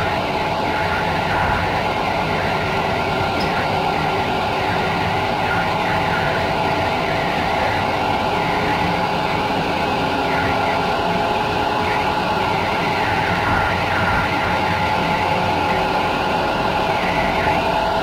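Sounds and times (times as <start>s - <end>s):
constant hum: 0.0s - 18.0s.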